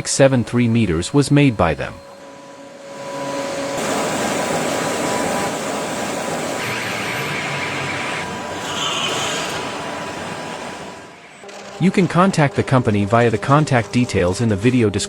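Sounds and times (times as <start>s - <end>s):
industrial machinery din: 0.0s - 15.0s.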